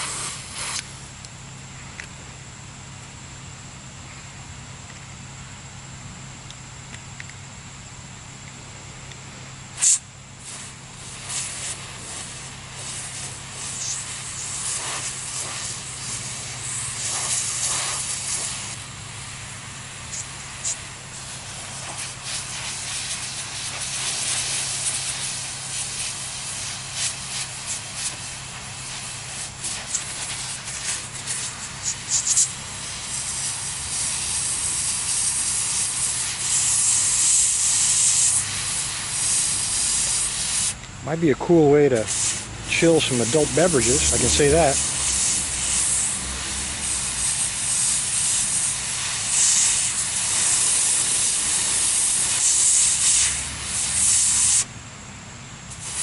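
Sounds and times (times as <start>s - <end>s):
aerosol spray hissing: 0.0s - 1.2s, 9.8s - 54.7s, 55.7s - 56.0s.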